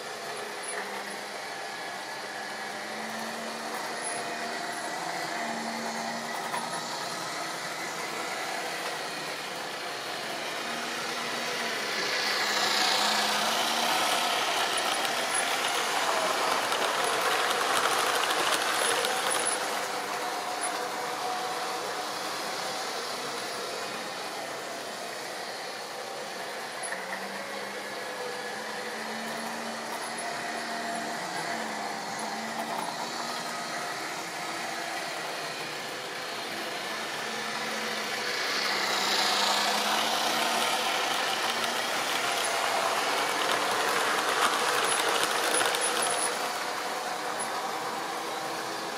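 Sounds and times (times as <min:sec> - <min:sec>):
model train electric motor hum: 0:00.0 - 0:48.9
train wheels running on track: 0:00.0 - 0:48.9.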